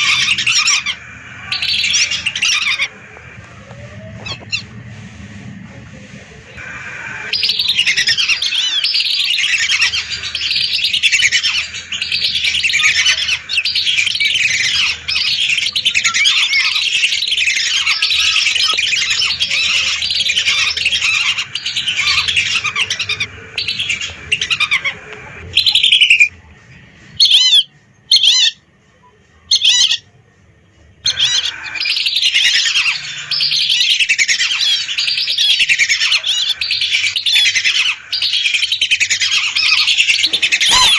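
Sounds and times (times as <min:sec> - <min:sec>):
whistling ducks calling: 0:00.0 - 0:04.8, 0:06.6 - 0:26.4, 0:27.2 - 0:28.7, 0:29.5 - 0:30.0, 0:31.0 - 0:40.9.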